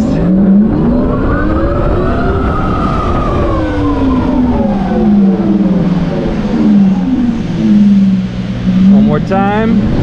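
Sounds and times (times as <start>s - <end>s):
electric motorcycle motor whine: 0.0s - 10.0s
low wind rush: 0.0s - 10.0s.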